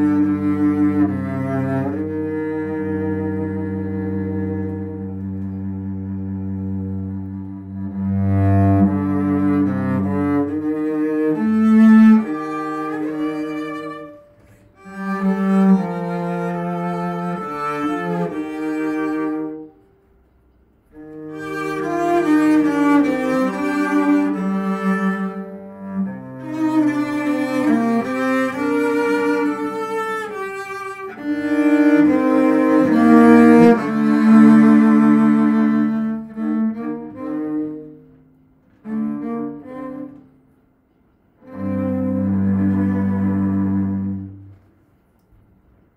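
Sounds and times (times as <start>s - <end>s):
cellos playing bowed chords: 0.0s - 45.3s.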